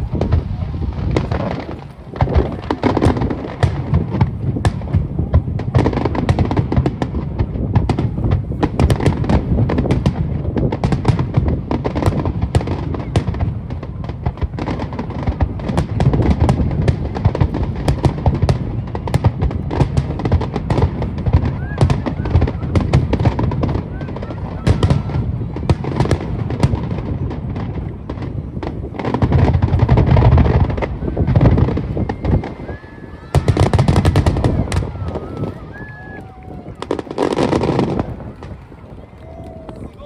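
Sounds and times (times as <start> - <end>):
low rumble of booms: 0.0 - 35.8
fireworks cracking: 0.0 - 40.0.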